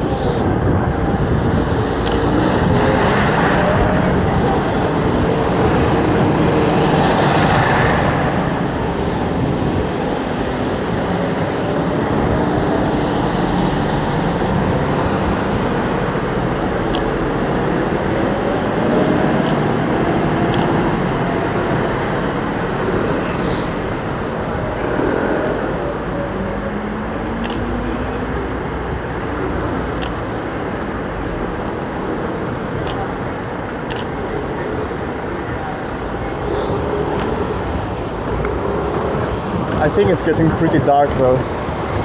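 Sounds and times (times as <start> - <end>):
road traffic: 0.0 - 42.0.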